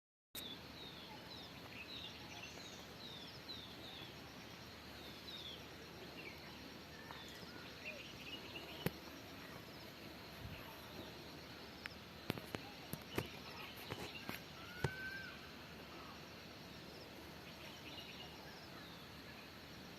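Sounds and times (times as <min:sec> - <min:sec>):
birds chirping: 0:00.4 - 0:19.9
outdoor background hiss: 0:00.4 - 0:19.9.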